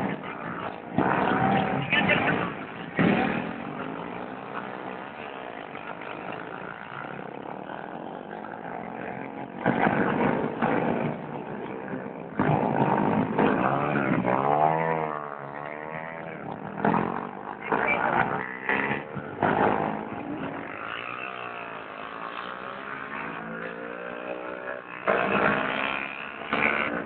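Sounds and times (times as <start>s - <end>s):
racing motorcycles passing at speed: 0.0s - 27.0s.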